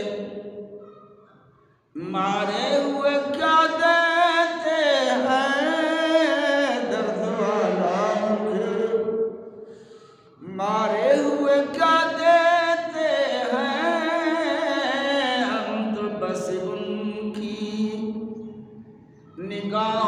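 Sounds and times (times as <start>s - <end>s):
man chanting: 0.0s - 0.4s, 2.0s - 9.2s, 10.4s - 18.3s, 19.4s - 20.0s.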